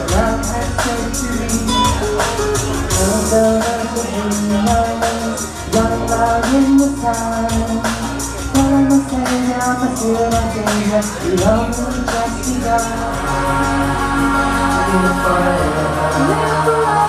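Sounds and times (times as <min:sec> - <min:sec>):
backing track with steady beat: 0:00.0 - 0:17.0
person singing karaoke: 0:00.0 - 0:17.0.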